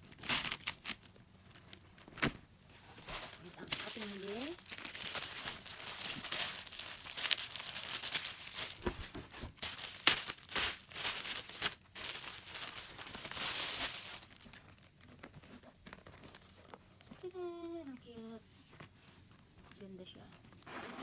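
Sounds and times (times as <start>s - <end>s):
packaging crinkling and tearing: 0.0s - 17.2s.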